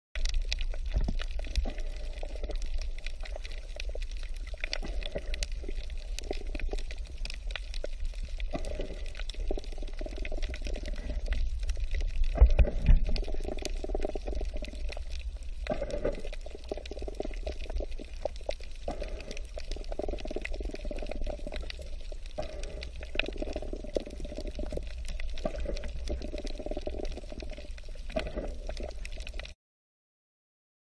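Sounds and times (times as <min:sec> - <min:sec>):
underwater bubbling: 0:00.2 - 0:29.6
underwater rumble of moving water: 0:00.2 - 0:29.6.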